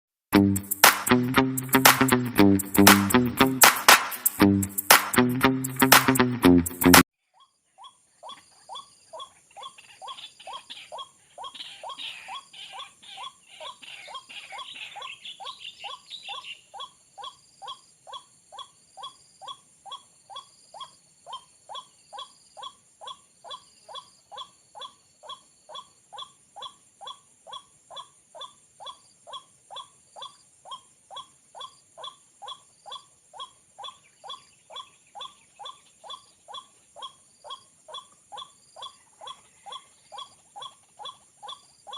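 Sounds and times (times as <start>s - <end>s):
fast chattering bird calls: 7.4s - 41.9s.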